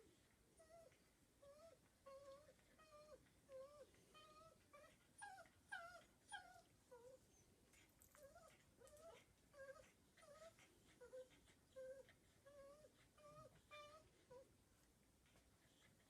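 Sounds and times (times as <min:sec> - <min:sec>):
puppy whimpering: 0:00.6 - 0:14.5.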